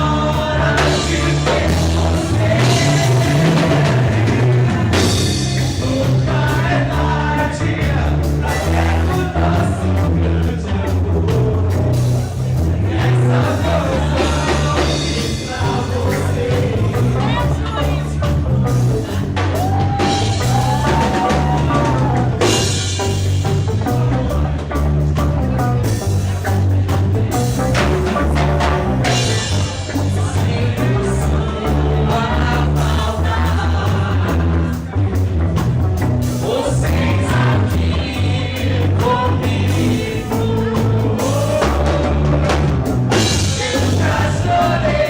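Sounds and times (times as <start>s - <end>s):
person singing: 0.0s - 35.0s, 36.3s - 45.0s
drums: 0.0s - 45.0s
heavy bass: 0.0s - 45.0s.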